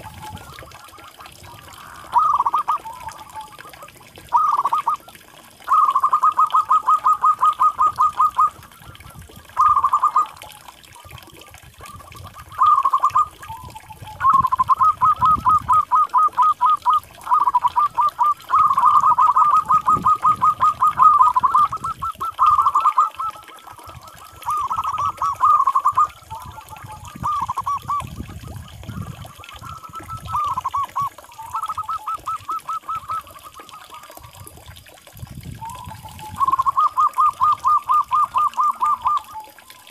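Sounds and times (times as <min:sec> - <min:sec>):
doves cooing: 0:00.0 - 0:34.6, 0:35.6 - 0:39.9.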